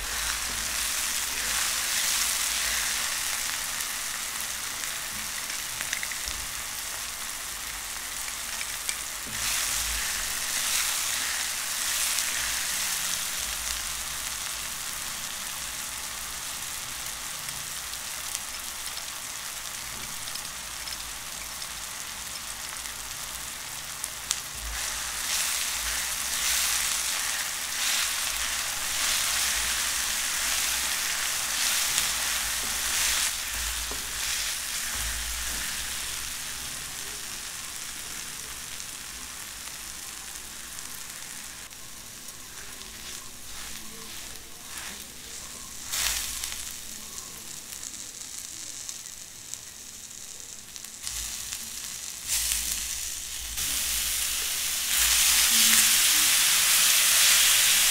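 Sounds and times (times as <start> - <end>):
sauce sizzling in hot oil: 0.0 - 57.9.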